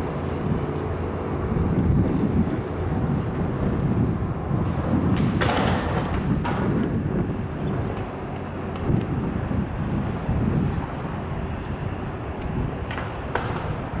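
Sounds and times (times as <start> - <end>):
powerboat engine rumble: 0.0 - 14.0
wind buffeting microphone: 0.0 - 14.0.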